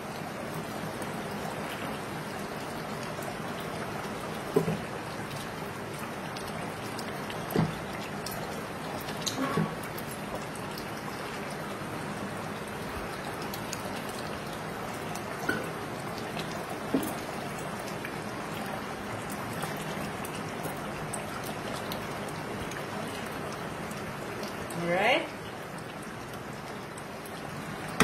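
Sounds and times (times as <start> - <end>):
gravy bubbling and sizzling: 0.0 - 28.0.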